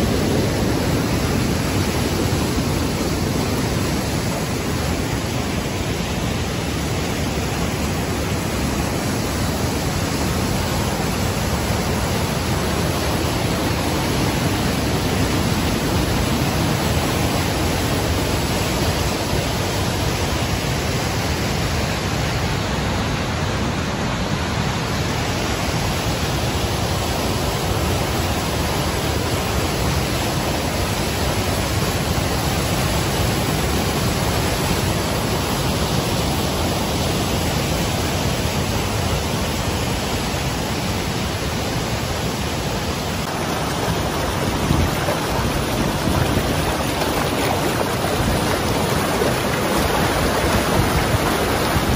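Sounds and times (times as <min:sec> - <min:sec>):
white water rushing over rocks: 0:00.0 - 0:51.9.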